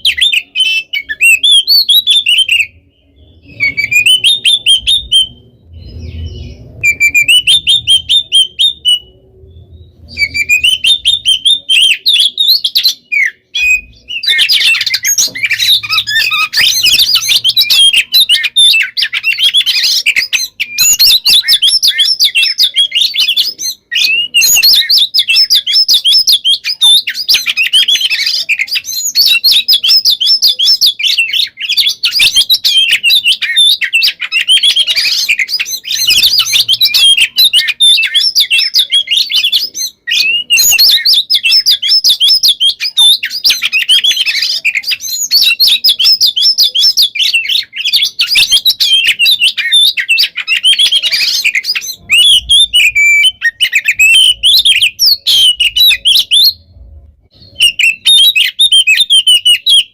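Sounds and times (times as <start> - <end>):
bird song warbles and trills: 0.0 - 59.9.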